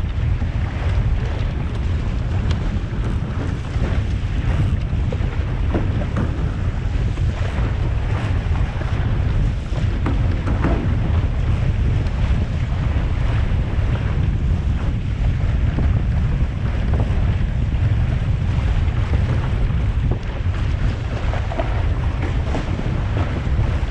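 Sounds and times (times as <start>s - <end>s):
water splashing along hull: 0.0s - 23.9s
wind buffeting microphone: 0.0s - 23.9s.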